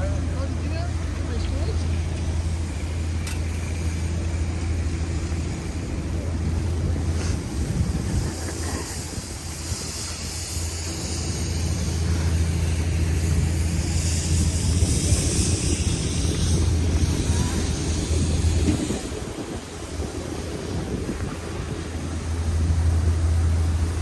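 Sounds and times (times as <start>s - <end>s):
traffic hiss: 0.0s - 24.0s
traffic rumble: 0.0s - 24.0s.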